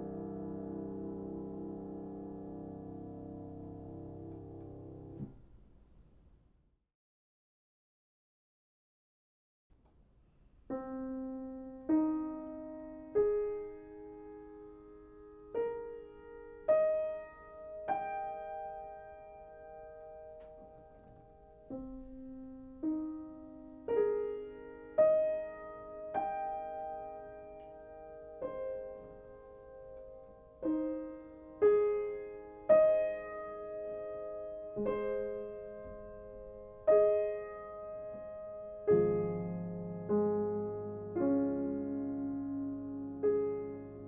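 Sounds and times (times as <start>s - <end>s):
slow gentle piano melody: 0.0s - 6.3s, 9.9s - 44.0s.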